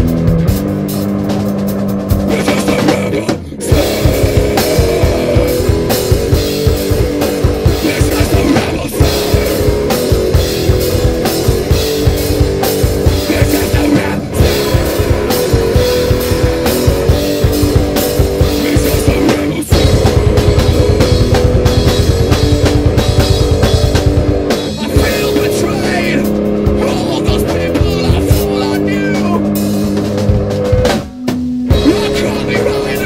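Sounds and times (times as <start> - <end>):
distorted guitar and bass chords: 0.0 - 33.0
drum kit hit hard: 0.0 - 33.0.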